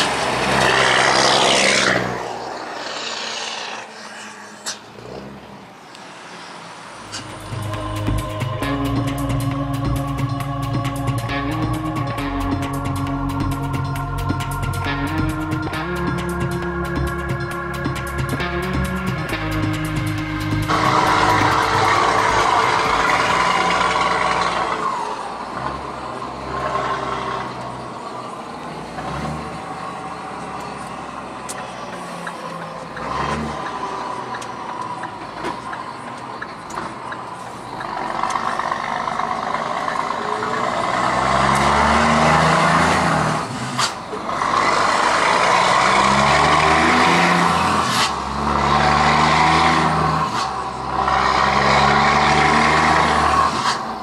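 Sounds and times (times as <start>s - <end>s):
truck diesel engine: 0.0s - 54.0s.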